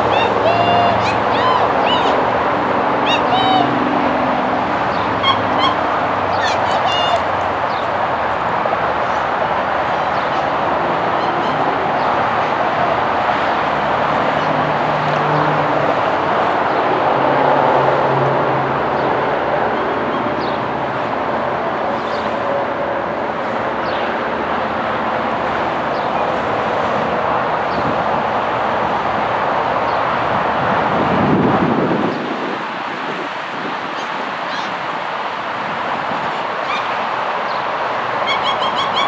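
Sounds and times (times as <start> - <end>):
steady rushing noise: 0.0 - 38.3.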